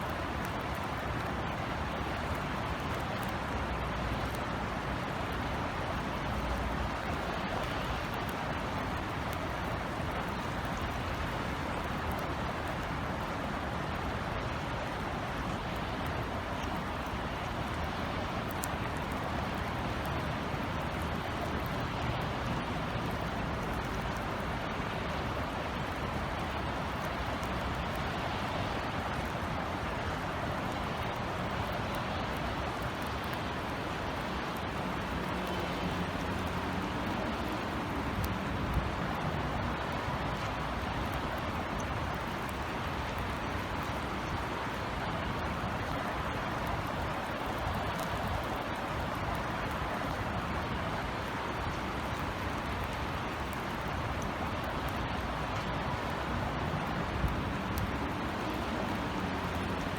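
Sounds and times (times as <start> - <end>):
faint drip ticks: 0.0 - 59.9
low rumble of city traffic: 0.0 - 59.9.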